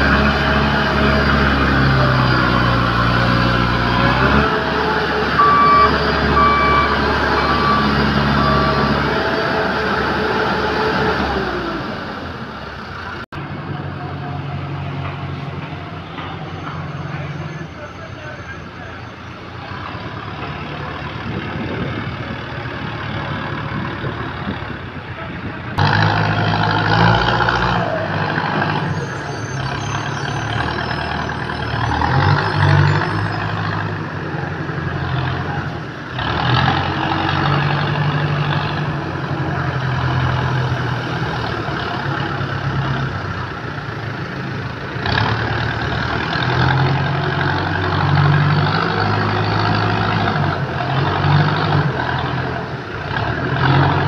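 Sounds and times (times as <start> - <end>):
diesel engines under load: 0.0 - 54.0.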